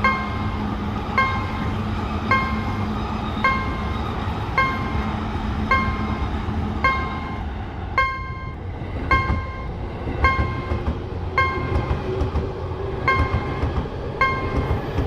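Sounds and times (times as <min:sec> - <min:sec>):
railroad crossing bell: 0:00.0 - 0:12.0, 0:13.0 - 0:15.0
low train rumble: 0:00.0 - 0:15.0.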